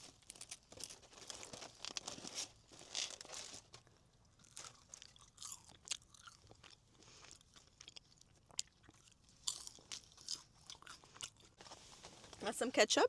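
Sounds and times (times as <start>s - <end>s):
chewing with crisp crunches: 0.0s - 11.8s.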